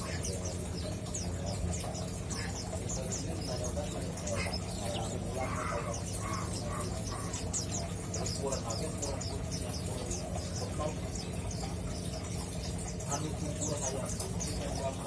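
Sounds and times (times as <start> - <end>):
small bird twittering: 0.0 - 15.0
steady low hum: 0.0 - 15.0.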